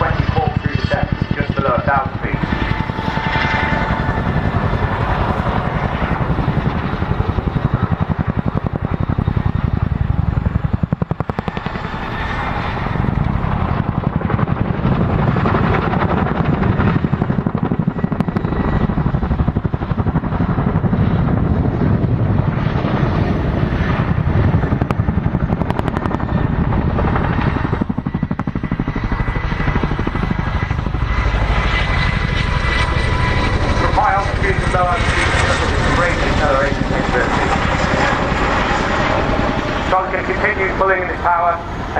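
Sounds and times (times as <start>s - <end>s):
helicopter rotor beating: 0.0s - 41.9s.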